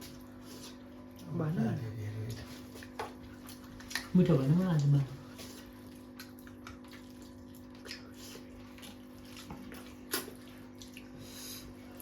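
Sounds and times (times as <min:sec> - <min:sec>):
chewing and eating: 0:00.0 - 0:12.0.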